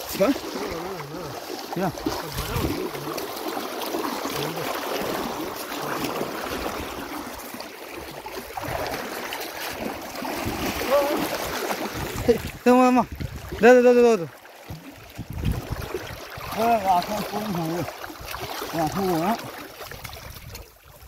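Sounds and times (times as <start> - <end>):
river water rushing and splashing: 0.0 - 21.0.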